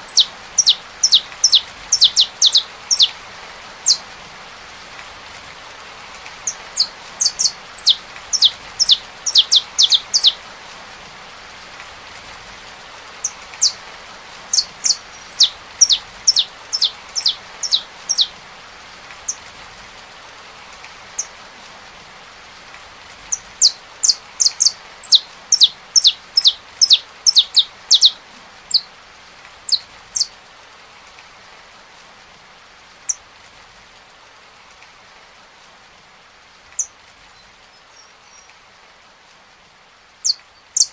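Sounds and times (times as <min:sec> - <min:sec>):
rain hissing: 0:00.0 - 0:40.9.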